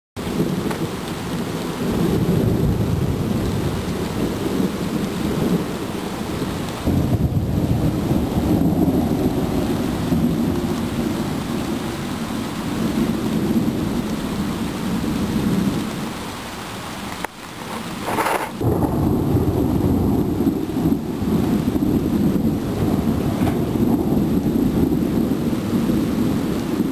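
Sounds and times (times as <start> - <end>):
thunder rumbling: 0.2 - 16.4, 17.2 - 26.9
steady rain: 0.2 - 26.9.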